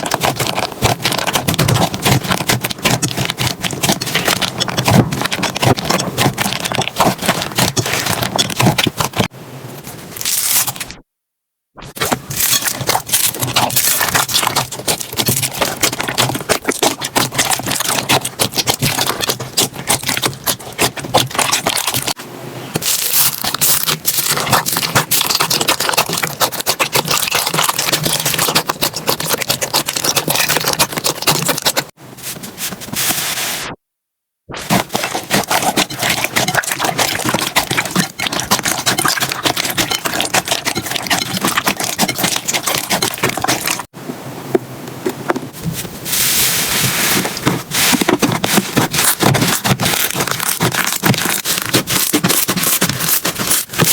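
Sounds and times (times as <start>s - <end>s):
slime squelching and crackling: 0.0s - 9.3s, 10.2s - 11.0s, 11.9s - 22.2s, 22.8s - 33.2s, 34.5s - 43.9s, 45.5s - 53.9s.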